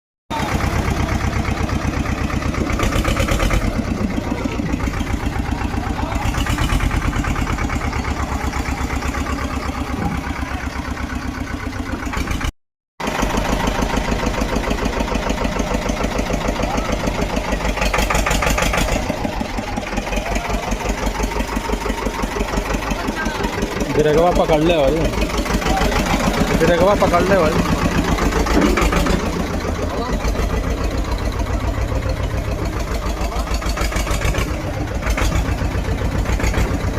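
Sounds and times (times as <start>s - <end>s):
tractor engine running: 0.3s - 36.9s.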